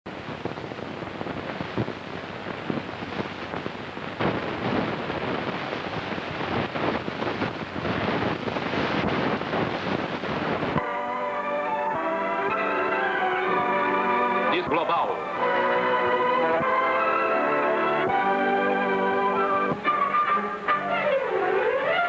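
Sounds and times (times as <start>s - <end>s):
film crackles and pops: 0.1s - 11.0s, 11.8s - 22.0s
rushing wind-like noise: 0.1s - 22.0s.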